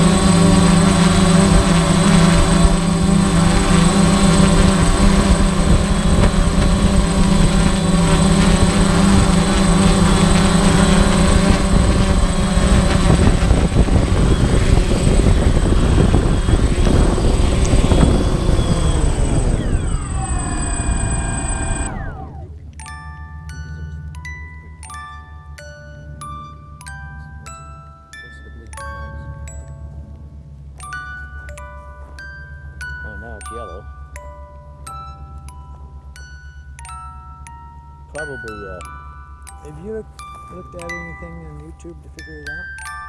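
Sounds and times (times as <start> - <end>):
drone motors buzzing: 0.0 - 43.0.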